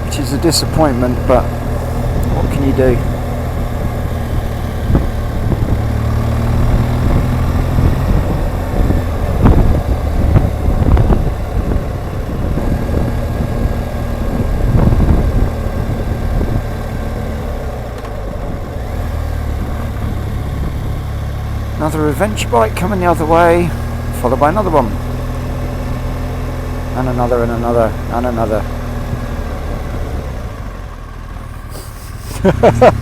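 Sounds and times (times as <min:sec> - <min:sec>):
motorcycle engine running: 0:00.0 - 0:33.0
road and wind noise: 0:00.0 - 0:33.0.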